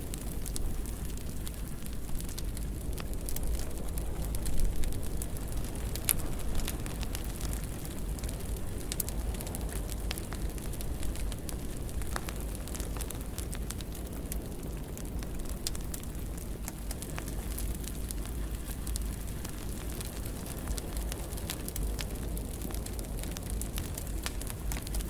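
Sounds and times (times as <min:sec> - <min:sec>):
fire crackling in fireplace: 0:00.0 - 0:25.0.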